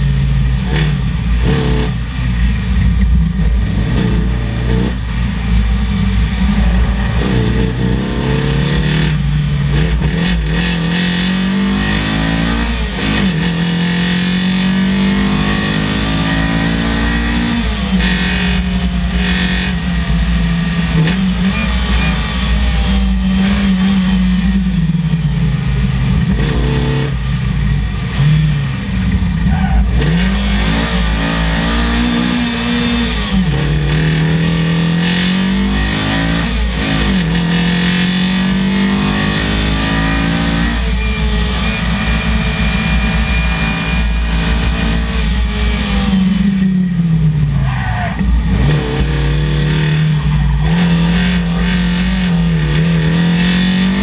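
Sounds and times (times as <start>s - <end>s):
rally car engine revving: 0.0s - 54.0s
wind and road noise: 0.0s - 54.0s.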